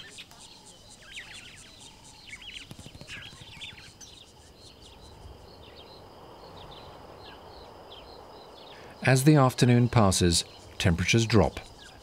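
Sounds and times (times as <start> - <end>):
birds chirping: 0.0 - 12.0
insect trill: 0.0 - 12.0.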